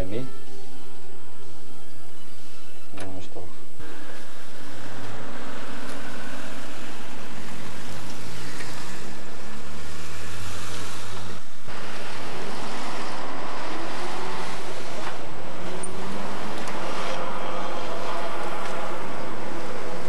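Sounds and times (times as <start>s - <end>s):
road traffic passing: 3.6s - 20.0s.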